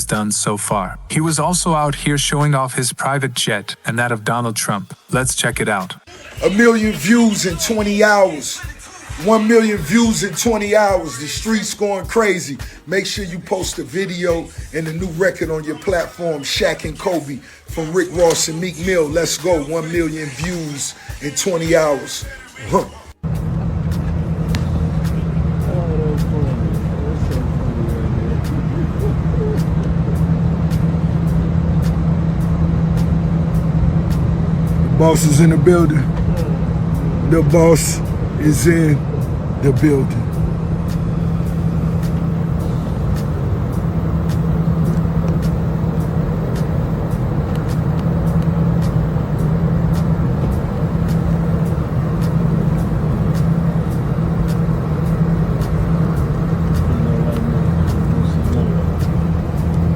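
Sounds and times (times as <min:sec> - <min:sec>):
low engine hum: 0:06.2 - 0:59.9.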